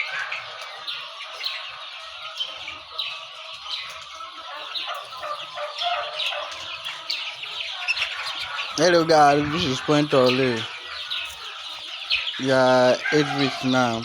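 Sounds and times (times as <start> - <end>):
flock of chickens clucking: 0.0 - 14.0.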